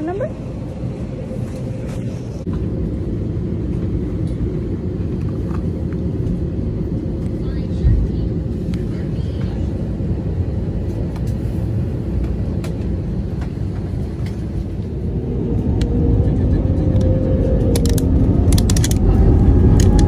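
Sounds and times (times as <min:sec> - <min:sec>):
jet engine rumble in cabin: 0:00.0 - 0:20.0.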